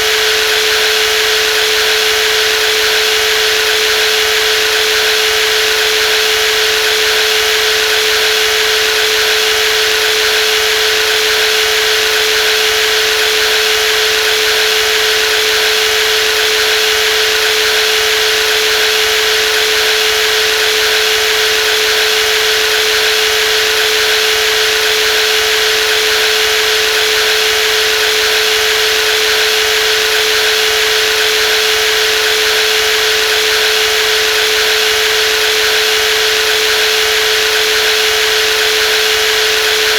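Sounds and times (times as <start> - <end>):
jigsaw motor whine: 0.0 - 39.9.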